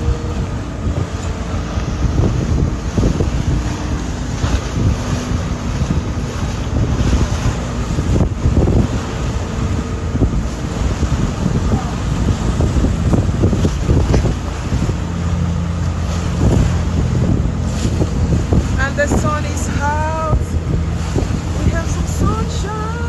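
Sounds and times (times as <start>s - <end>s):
faint engine hum: 0.0s - 23.0s
water rushing: 0.0s - 23.0s
wind buffeting microphone: 0.0s - 23.0s.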